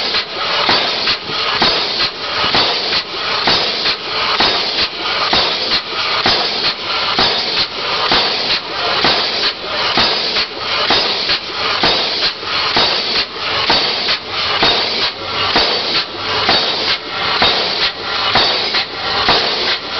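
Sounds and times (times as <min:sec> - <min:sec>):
exhaust steam hissing: 0:00.0 - 0:19.9
steam pile driver hammer blows: 0:00.0 - 0:19.9.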